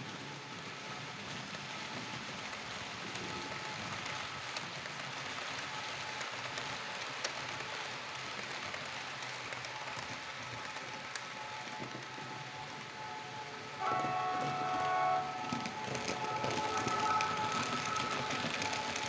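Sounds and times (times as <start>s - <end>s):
model train wheels rattling: 1.7s - 19.0s.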